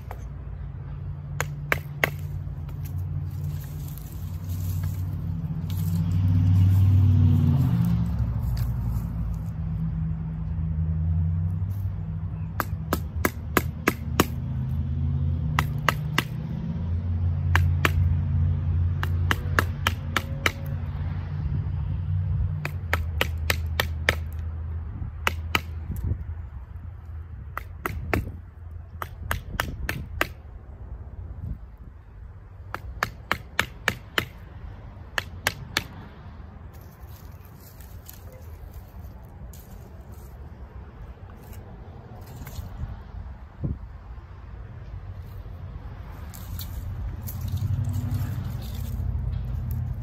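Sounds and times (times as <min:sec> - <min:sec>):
low engine rumble: 0:00.0 - 0:50.0.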